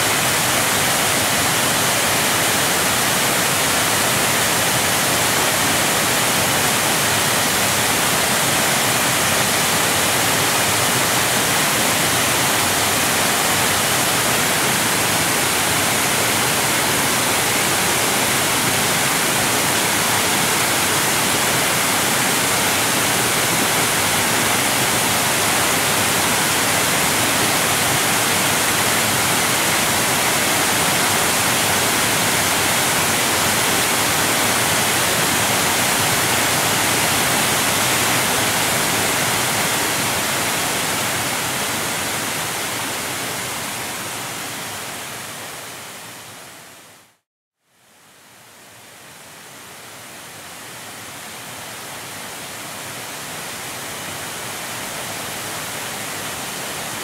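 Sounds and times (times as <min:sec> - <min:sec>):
waterfall rushing: 0:00.0 - 0:46.4.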